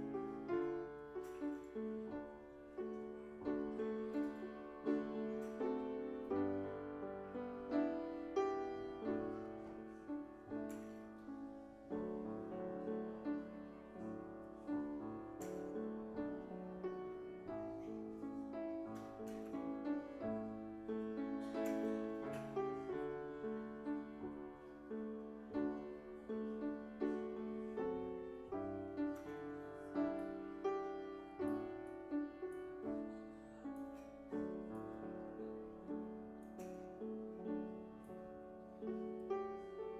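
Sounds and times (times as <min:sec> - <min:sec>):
slow solo piano piece: 0:00.0 - 0:39.9.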